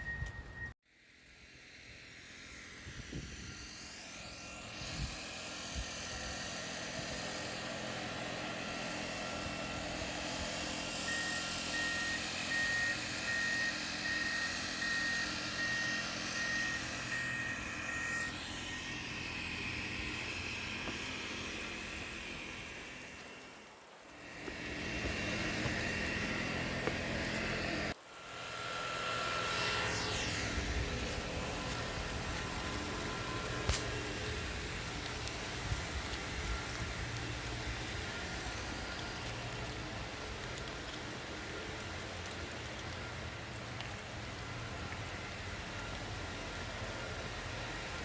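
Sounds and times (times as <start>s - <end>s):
engine noise: 0.0s - 48.0s
traffic noise: 3.8s - 48.0s.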